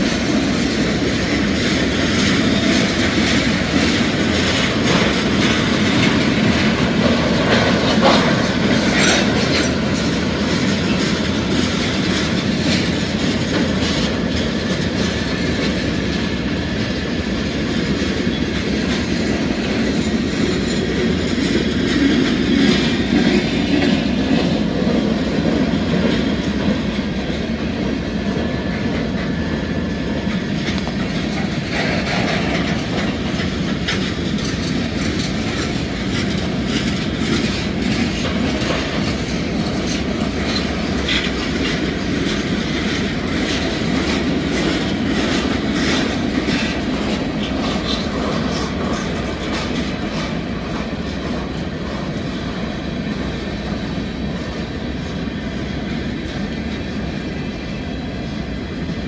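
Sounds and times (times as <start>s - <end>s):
clickety-clack over rail joints: 0.0s - 59.0s
freight train wheels rumbling: 0.0s - 59.0s.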